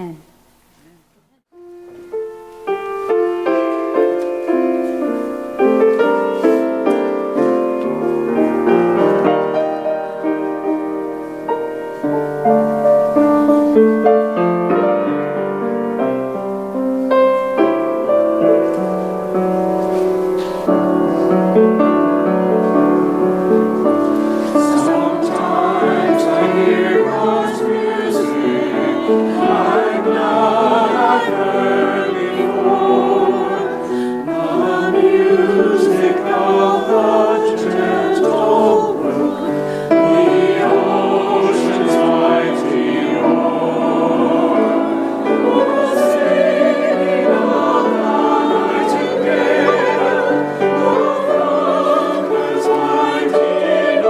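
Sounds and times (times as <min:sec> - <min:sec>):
church choir singing: 0:02.1 - 0:54.0.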